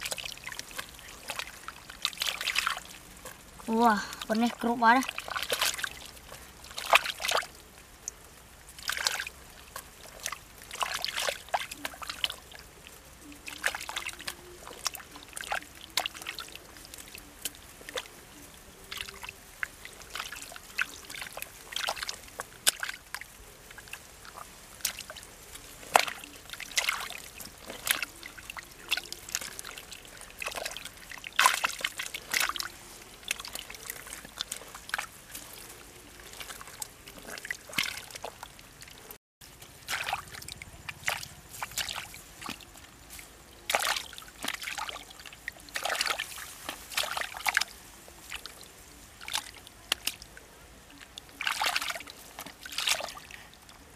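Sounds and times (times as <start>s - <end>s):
hands squelching in wet mud: 0.0s - 53.9s.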